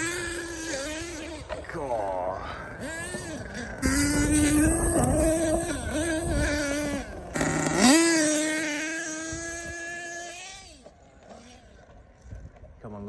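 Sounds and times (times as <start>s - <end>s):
nitro engine screaming: 0.0s - 11.8s.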